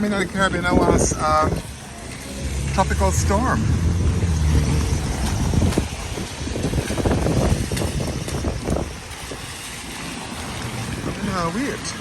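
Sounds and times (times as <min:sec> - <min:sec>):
tyres hissing on wet road: 0:00.0 - 0:12.0
vehicle engine humming: 0:00.2 - 0:12.0.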